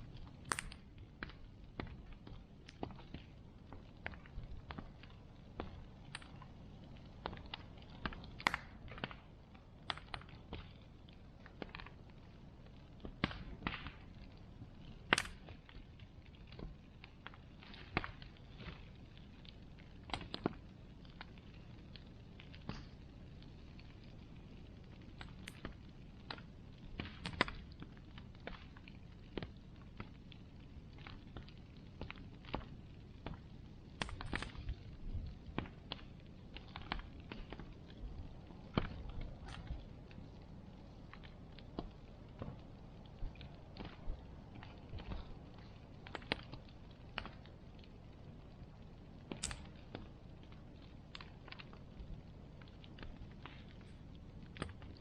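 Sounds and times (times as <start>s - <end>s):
bonfire crackling and popping: 0.0s - 55.0s
faint low hiss: 0.0s - 55.0s.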